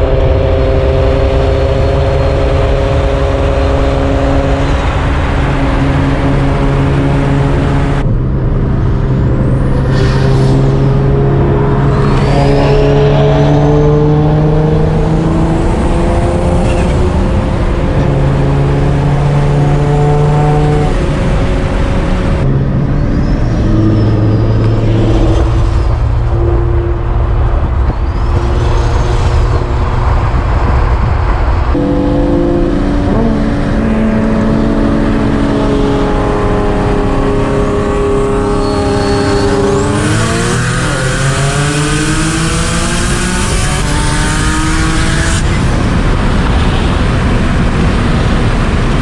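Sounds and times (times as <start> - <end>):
car engine running hard: 0.0 - 49.0.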